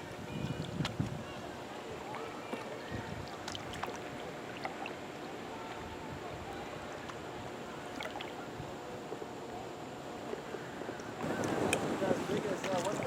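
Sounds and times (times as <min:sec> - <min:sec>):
river water rushing: 0:01.4 - 0:13.0.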